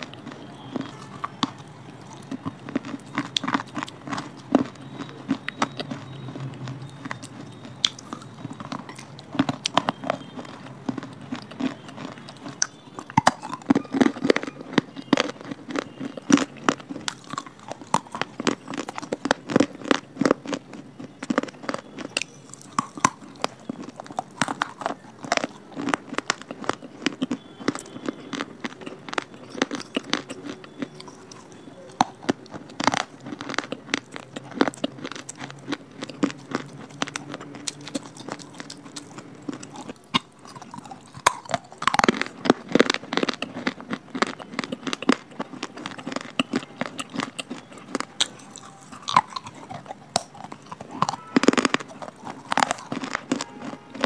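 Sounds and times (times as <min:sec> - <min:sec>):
crunching hard clay pieces: 0:00.0 - 0:54.0.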